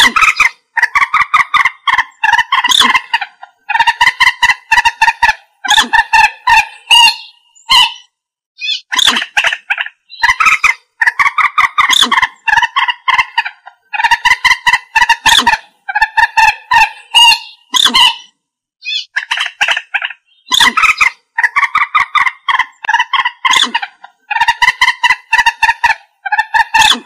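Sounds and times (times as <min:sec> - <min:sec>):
moorhen clucking calls: 0:00.0 - 0:27.0.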